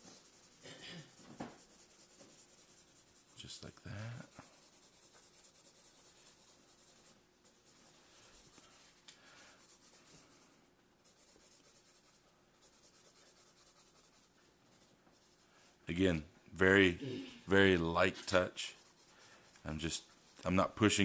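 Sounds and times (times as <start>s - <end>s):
marker scratching on paper: 0.0s - 21.0s.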